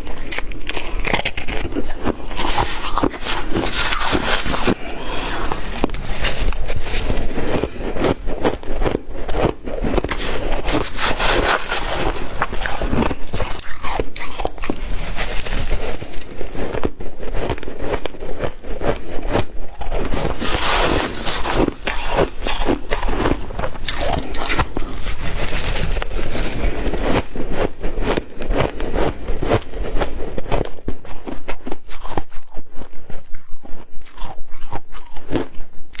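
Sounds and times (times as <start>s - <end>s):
person crunching ice: 0.0s - 36.0s.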